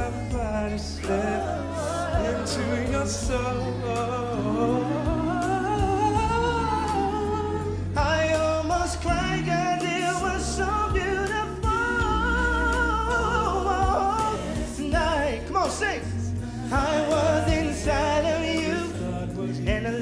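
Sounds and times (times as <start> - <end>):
band with steady bass line: 0.0 - 20.0
male vocal group singing harmonies: 0.0 - 20.0.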